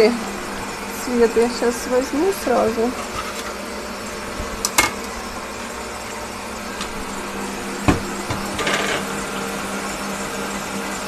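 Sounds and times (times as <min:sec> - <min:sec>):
electric mixer humming: 0:00.0 - 0:11.0.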